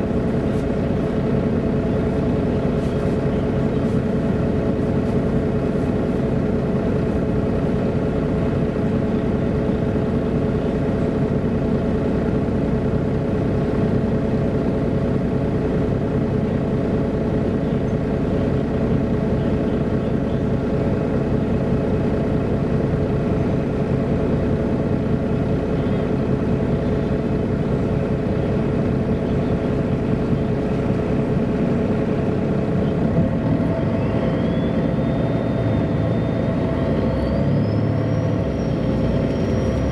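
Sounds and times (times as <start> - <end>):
bus engine rumble: 0.0 - 39.9
constant whine: 0.0 - 39.9.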